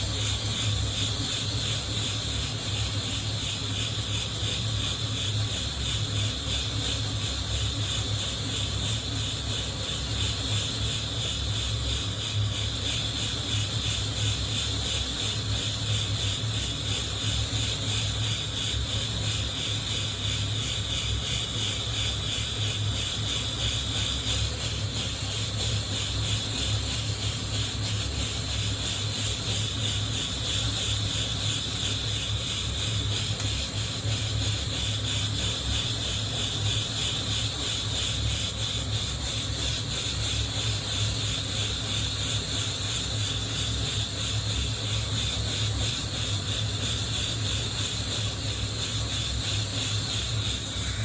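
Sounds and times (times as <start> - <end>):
gas flame hissing: 0.0 - 51.0.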